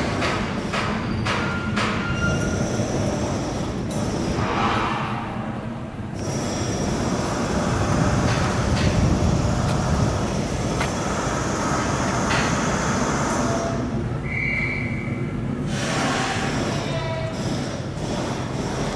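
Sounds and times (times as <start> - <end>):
electric train rumbling: 0.0 - 18.9.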